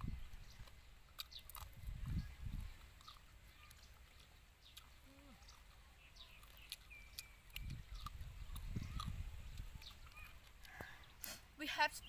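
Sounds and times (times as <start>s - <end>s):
mouth clicks and smacks: 0.0s - 11.4s
chewing: 0.0s - 11.5s.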